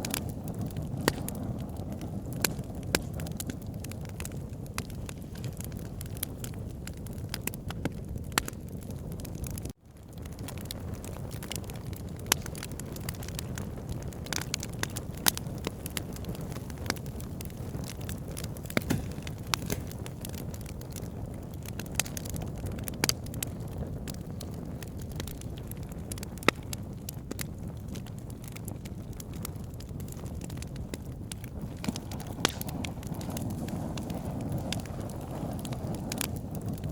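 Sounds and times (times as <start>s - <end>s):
campfire crackling and popping: 0.0s - 36.9s
low rumble of flames: 0.0s - 36.9s.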